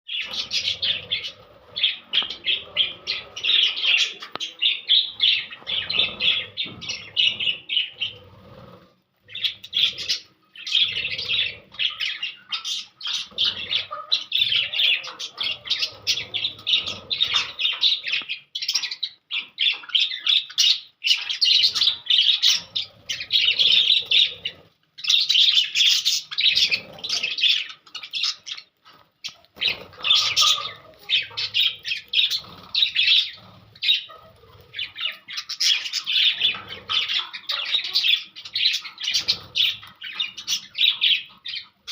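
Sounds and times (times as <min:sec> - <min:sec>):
small parrots chirping and chattering: 0:00.0 - 0:41.9.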